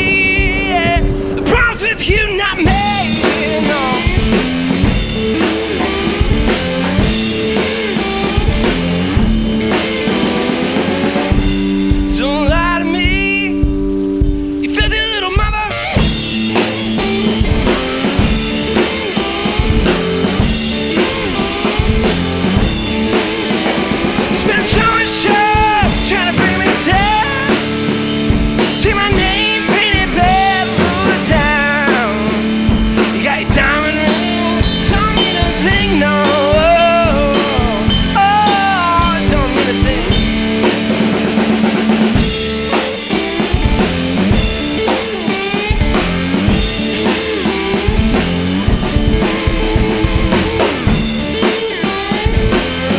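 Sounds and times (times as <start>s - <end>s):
drum kit steady beat: 0.0s - 52.9s
electric guitar sliding lead: 0.0s - 52.9s.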